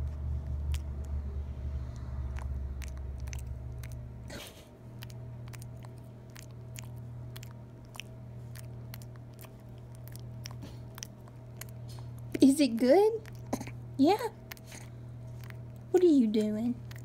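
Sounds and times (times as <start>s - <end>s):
steady low hum: 0.0s - 17.0s
monkey chewing and licking: 2.3s - 4.1s, 4.9s - 17.0s.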